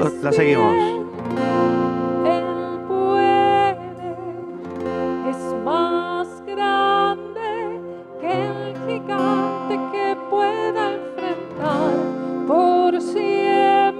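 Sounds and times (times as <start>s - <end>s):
acoustic guitar: 0.0s - 13.9s
person singing with vibrato: 0.0s - 13.9s
worship band playing slow song: 0.0s - 13.9s.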